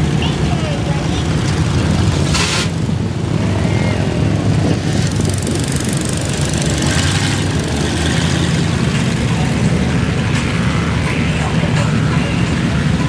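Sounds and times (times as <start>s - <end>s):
truck engines idling: 0.0s - 13.0s.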